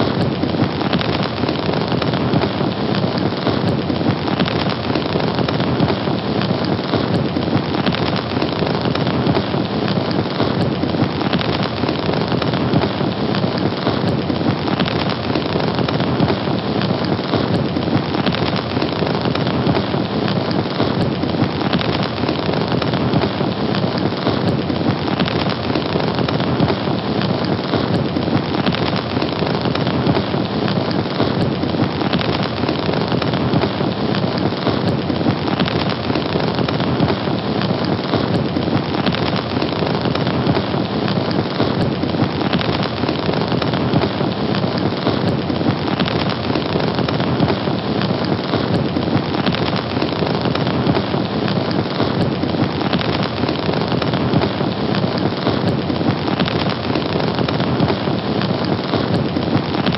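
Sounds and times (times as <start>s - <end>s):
fire rushing and crackling: 0.0s - 59.9s.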